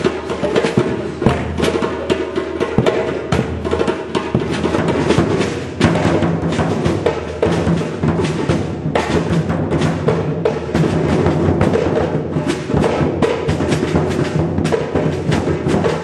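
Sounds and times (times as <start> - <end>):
group playing drums: 0.0 - 16.0.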